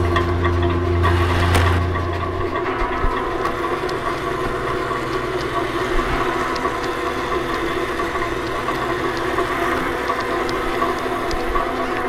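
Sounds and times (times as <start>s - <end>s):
droning hum of held tones: 0.0s - 12.0s.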